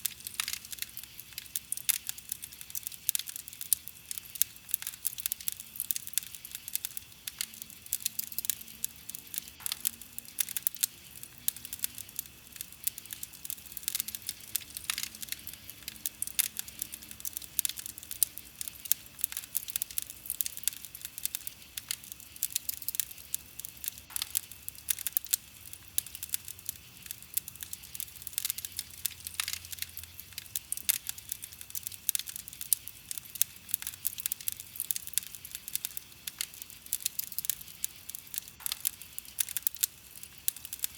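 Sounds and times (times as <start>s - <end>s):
campfire pops and snaps: 0.0s - 40.9s
soft fire hiss: 0.0s - 40.9s.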